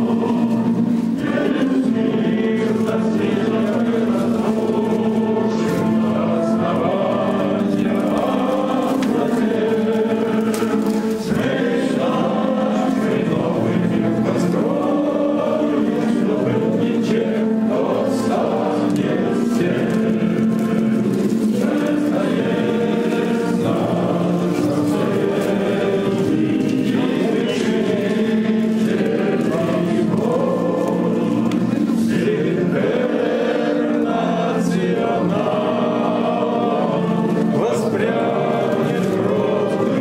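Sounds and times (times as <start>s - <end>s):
choir singing slow song: 0.0s - 40.0s.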